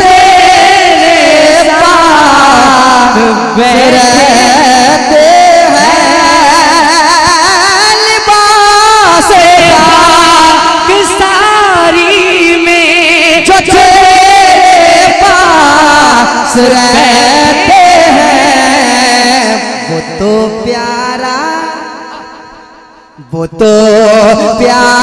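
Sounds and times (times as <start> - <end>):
ornamented devotional music: 0.0 - 25.0.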